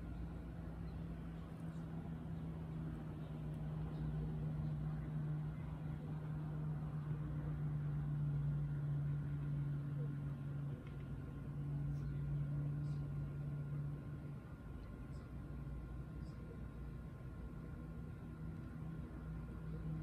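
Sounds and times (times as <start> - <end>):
low mechanical motor hum: 0.0 - 20.0.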